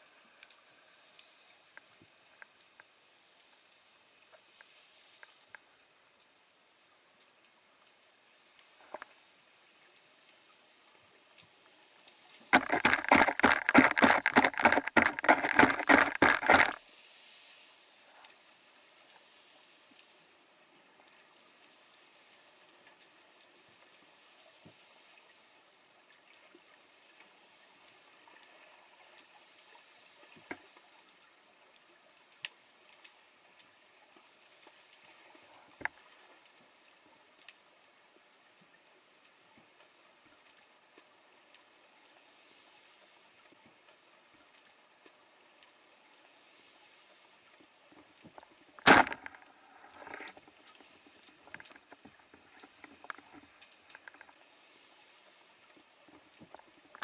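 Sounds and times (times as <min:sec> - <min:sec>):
faint underwater hiss: 0:00.0 - 0:57.0
small clicks and crackles: 0:00.0 - 0:57.0.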